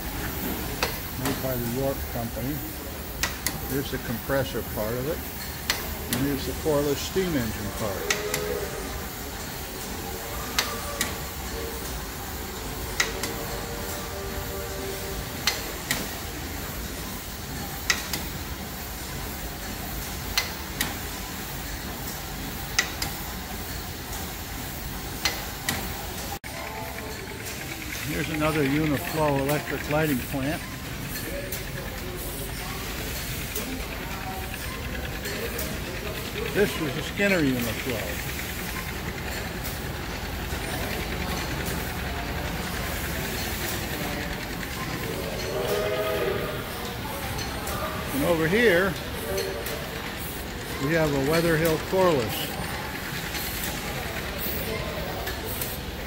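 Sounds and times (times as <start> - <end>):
steady steam hiss: 0.0 - 56.0.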